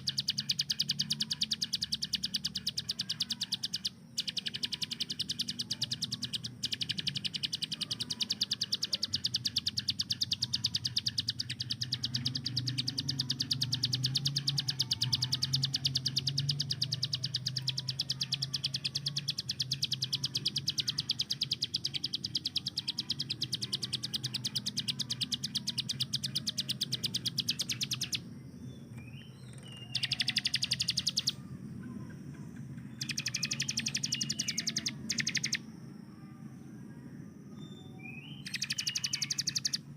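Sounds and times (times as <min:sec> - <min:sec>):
bird singing rapid high notes: 0:00.0 - 0:31.5, 0:32.8 - 0:35.7, 0:37.6 - 0:39.9.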